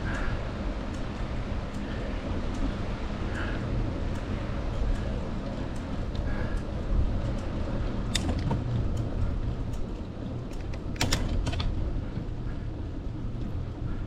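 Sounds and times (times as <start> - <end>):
bicycle rolling rumble: 0.0 - 14.0
bike clicks and rattles: 0.0 - 14.0.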